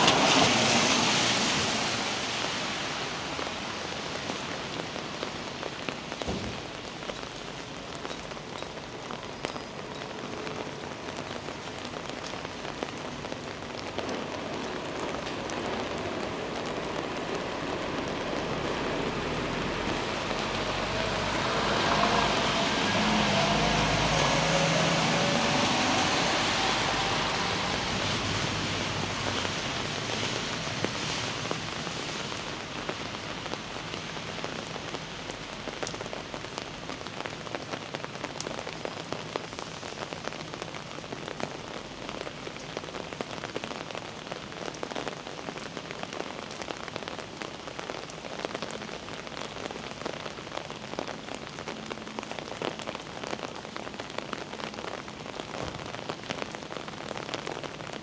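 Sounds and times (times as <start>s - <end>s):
close raindrop hits: 0.0s - 58.0s
heavy rain on street: 0.0s - 58.0s.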